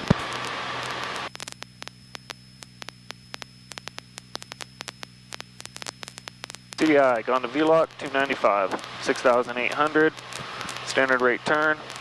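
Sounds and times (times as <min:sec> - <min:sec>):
radio hiss: 0:00.0 - 0:12.0
static crackling clicks: 0:00.0 - 0:12.0
steady low hum: 0:00.0 - 0:12.0.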